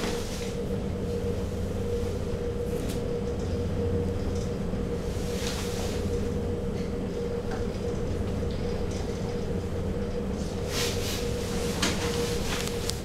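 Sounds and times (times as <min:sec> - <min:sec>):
gondola cabin hum and rumble: 0:00.0 - 0:13.0.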